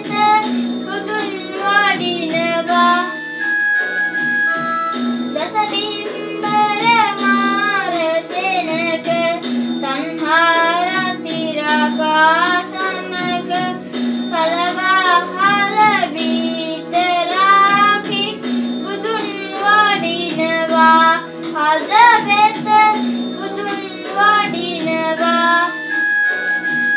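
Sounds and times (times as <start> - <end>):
child singing: 0.0 - 3.2, 5.4 - 25.8
instrumental accompaniment: 0.0 - 26.9.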